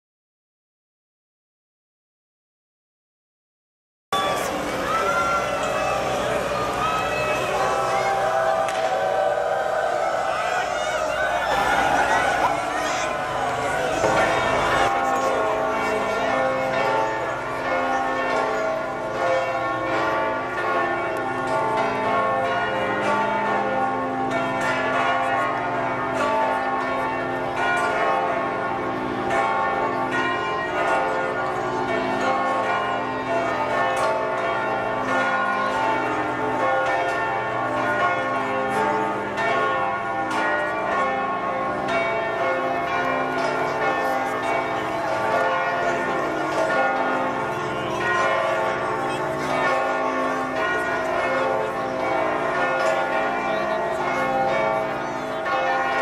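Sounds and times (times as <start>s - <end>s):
church bells ringing: 4.2s - 56.0s.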